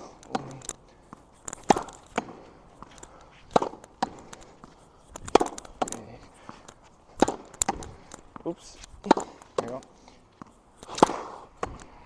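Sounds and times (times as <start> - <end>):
ball striking wall and bouncing: 0.0 - 11.9
racket hitting tennis ball: 0.0 - 11.9.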